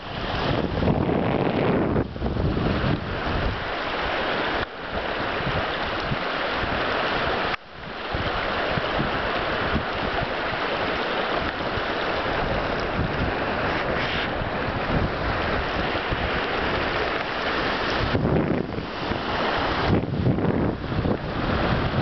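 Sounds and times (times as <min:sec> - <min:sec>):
surf on the beach: 0:00.0 - 0:22.0
wind buffeting the microphone: 0:00.0 - 0:22.0.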